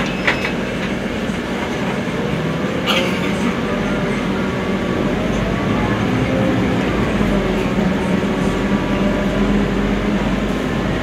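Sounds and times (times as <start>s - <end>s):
bus cabin drone: 0.0s - 11.0s.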